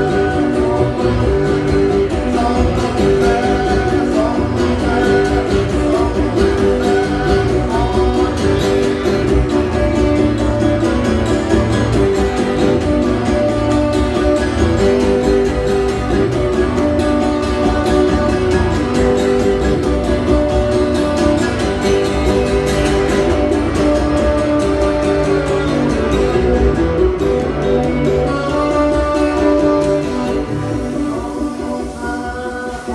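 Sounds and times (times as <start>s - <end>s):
strummed guitar: 0.0s - 32.9s.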